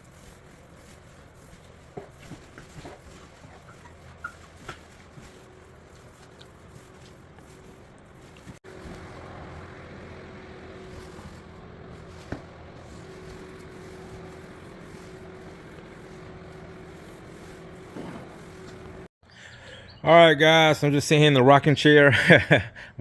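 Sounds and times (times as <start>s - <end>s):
steady low hum: 0.0s - 19.1s.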